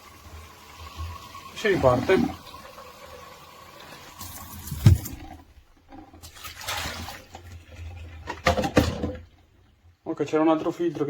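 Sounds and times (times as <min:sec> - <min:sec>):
water splashing in a sink: 0:00.0 - 0:09.9.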